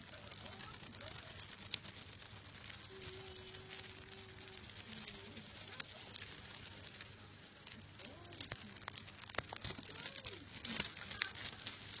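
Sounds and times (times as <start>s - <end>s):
plastic sheet crackling: 0.0s - 12.0s.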